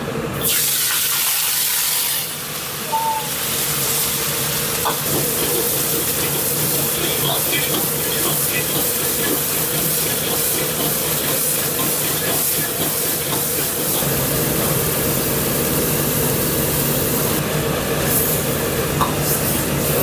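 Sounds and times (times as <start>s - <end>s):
gas burner roaring: 0.0s - 20.0s
vegetables sizzling in a wok: 0.4s - 20.0s.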